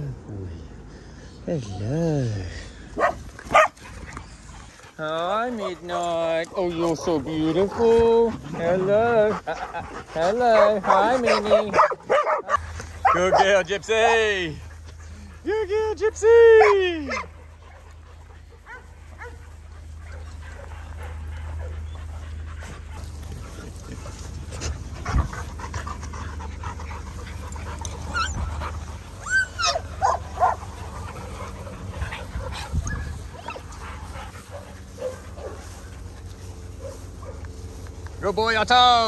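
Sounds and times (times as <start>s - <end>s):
dogs panting: 0.8s - 39.0s
dogs yipping: 3.0s - 15.2s, 16.5s - 37.5s
dogs scuffling on grass: 3.0s - 39.0s.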